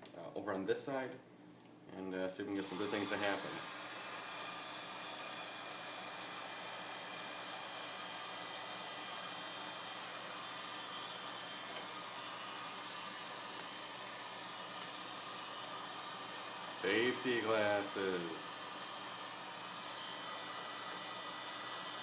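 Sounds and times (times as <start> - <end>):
heat gun blowing hiss: 2.6 - 22.0.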